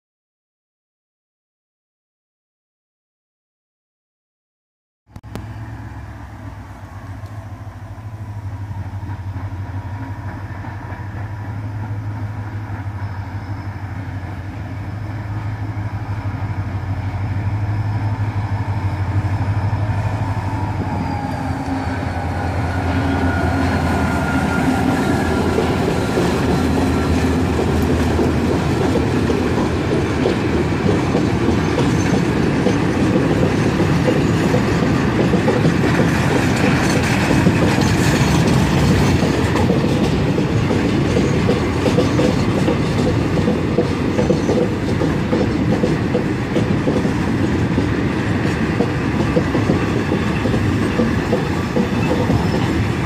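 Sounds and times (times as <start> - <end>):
diesel locomotive drone: 5.2 - 53.0.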